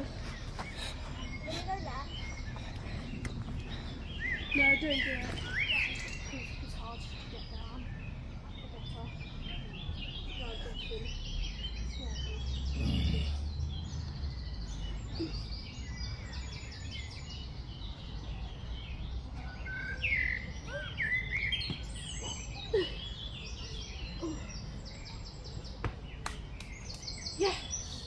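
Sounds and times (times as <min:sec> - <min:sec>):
birds singing and chirping: 0:00.0 - 0:28.0.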